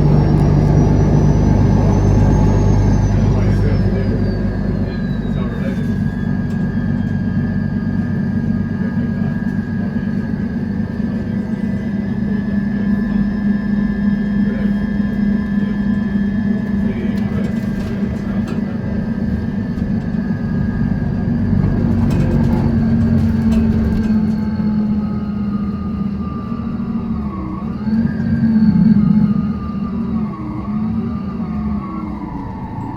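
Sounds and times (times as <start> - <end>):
bus engine droning: 0.0 - 32.9.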